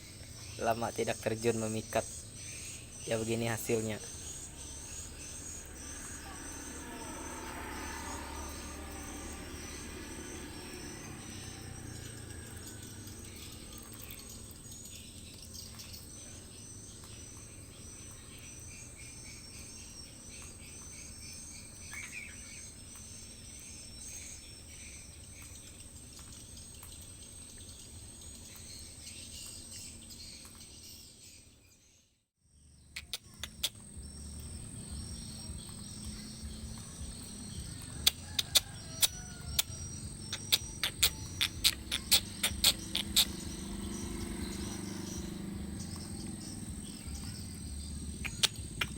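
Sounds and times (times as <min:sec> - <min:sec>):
high insect drone: 0:00.0 - 0:31.4, 0:32.5 - 0:48.9
birds chirping: 0:00.0 - 0:48.9.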